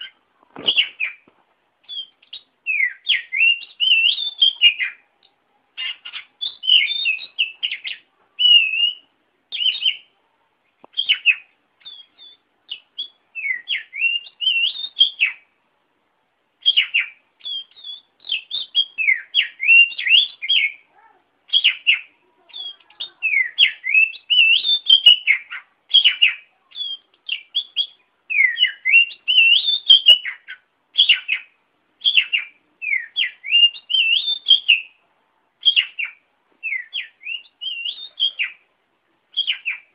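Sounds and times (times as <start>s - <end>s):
magpie-robin singing: 0.0s - 10.2s, 10.8s - 15.6s, 16.6s - 35.0s, 35.6s - 38.7s, 39.3s - 39.9s.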